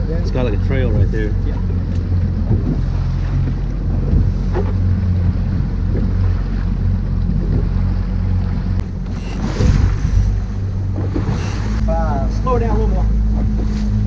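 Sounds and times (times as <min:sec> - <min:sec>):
boat engine humming: 0:00.0 - 0:14.0
water rushing along hull: 0:00.0 - 0:14.0
wind buffeting microphone: 0:00.0 - 0:14.0.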